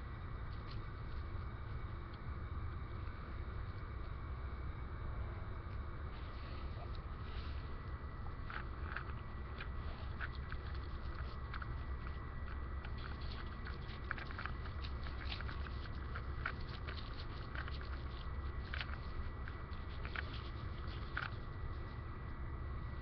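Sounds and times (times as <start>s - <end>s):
fire crackling: 0.0s - 23.0s
steady low rumble: 0.0s - 23.0s.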